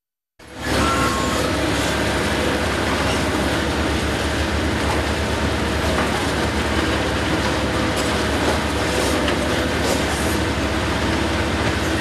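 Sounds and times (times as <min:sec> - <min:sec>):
excavator diesel engine rumbling: 0:00.4 - 0:12.0.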